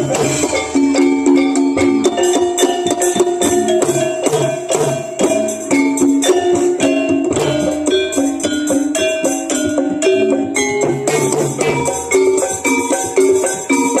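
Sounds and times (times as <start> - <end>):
drum strokes: 0.0 - 14.0
metallic jingling: 0.0 - 14.0
metallophones ringing melody: 0.0 - 14.0.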